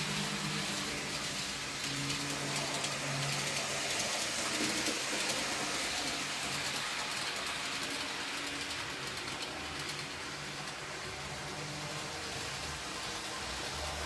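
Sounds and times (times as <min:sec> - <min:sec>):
model train wheels rattling on rail: 0:00.0 - 0:14.0.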